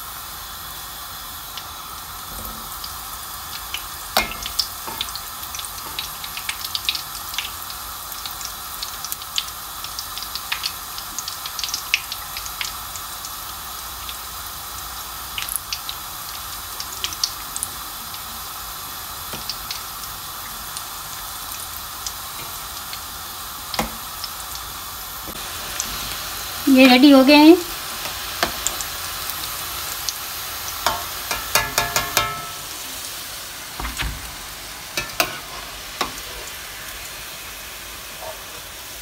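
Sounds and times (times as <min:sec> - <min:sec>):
food deep-frying in oil: 0:00.0 - 0:39.0.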